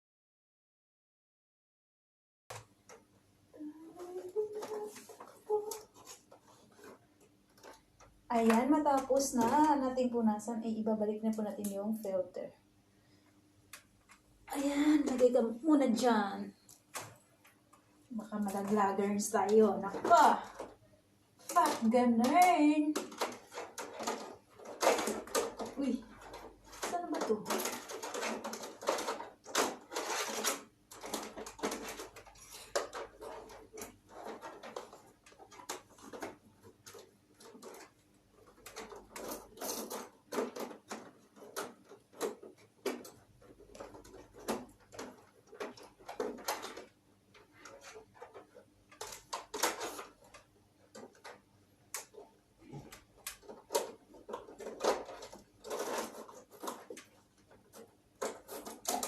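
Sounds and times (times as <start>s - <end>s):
plastic parts clicking and rustling: 2.5s - 12.4s, 13.7s - 59.0s.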